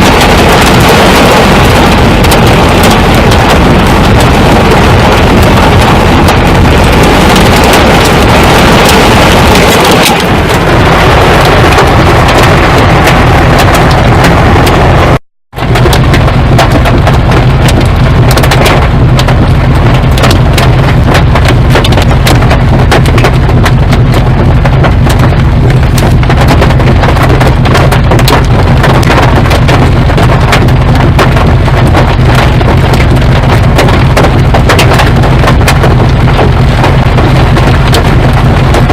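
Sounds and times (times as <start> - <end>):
hail pounding on a vehicle: 0.0 - 38.9
low rumble: 0.0 - 38.9.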